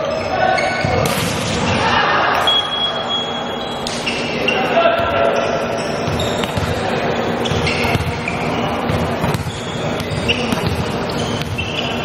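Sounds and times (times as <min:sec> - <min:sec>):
shoes squeaking on gym floor: 0:00.0 - 0:01.0, 0:02.4 - 0:12.0.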